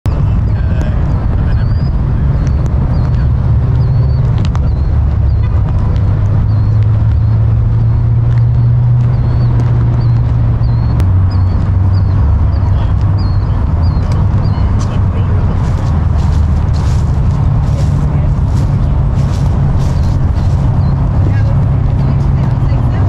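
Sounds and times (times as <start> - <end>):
vehicle engine drone: 0.0 - 23.0.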